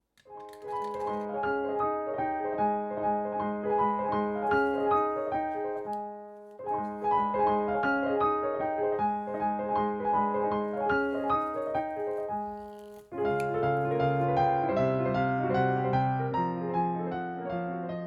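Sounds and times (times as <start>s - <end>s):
gentle piano piece: 0.0s - 18.0s.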